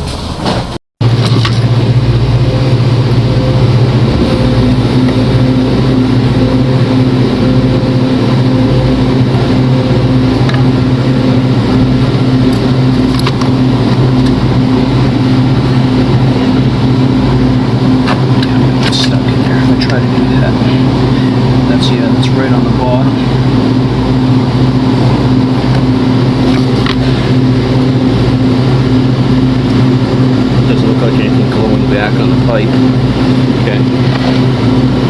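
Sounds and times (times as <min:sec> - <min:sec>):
machine humming: 0:00.0 - 0:35.0.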